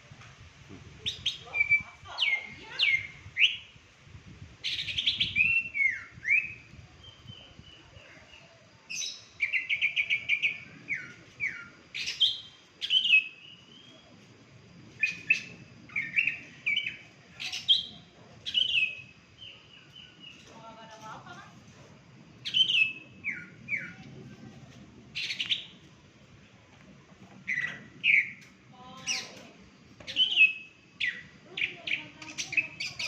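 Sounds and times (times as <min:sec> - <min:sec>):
songbird singing: 0:01.0 - 0:03.9, 0:04.6 - 0:21.4, 0:22.3 - 0:33.0.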